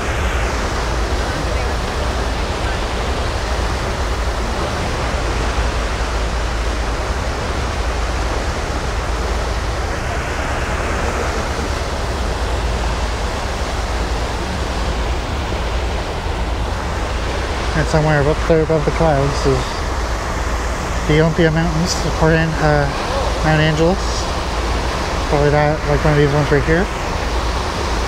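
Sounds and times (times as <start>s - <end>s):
propeller wake churning: 0.0s - 28.0s.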